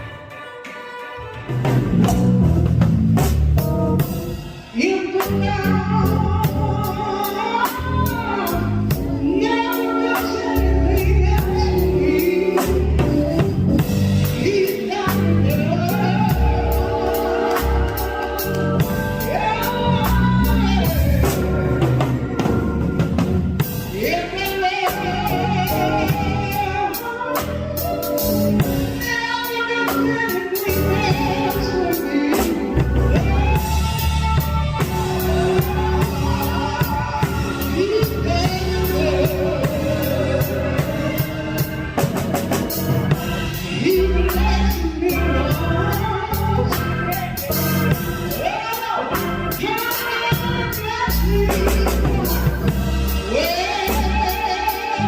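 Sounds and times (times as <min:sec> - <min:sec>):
gospel singing: 0:00.0 - 0:55.0
band with strong bass: 0:01.2 - 0:55.0.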